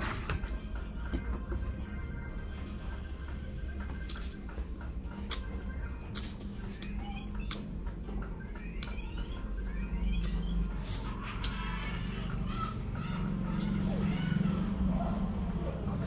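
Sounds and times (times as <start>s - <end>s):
insect trill: 0.0s - 16.0s.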